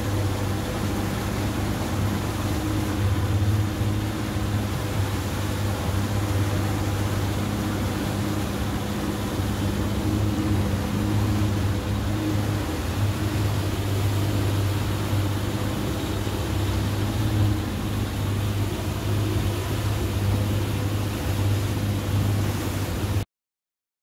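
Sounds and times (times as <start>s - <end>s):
motorboat engine droning: 0.0s - 23.2s
rushing water: 0.0s - 23.3s.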